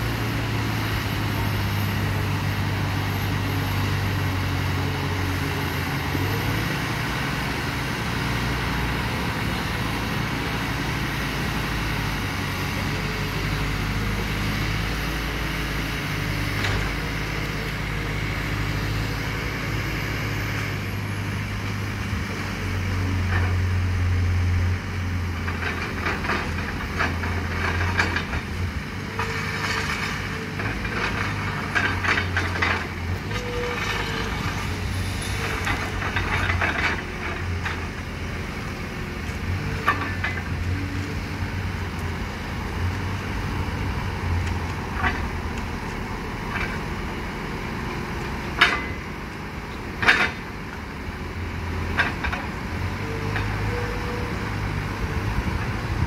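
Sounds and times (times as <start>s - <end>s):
construction machine engine running: 0.0s - 56.0s.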